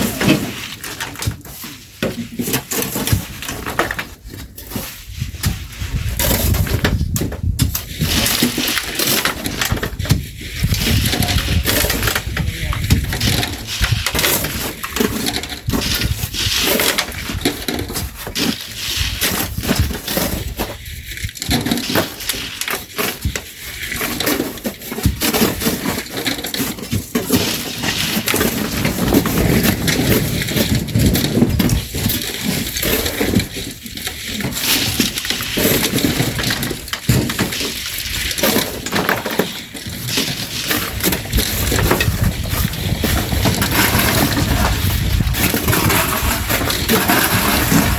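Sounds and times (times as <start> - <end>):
shovels scraping sand and gravel: 0.0 - 47.9.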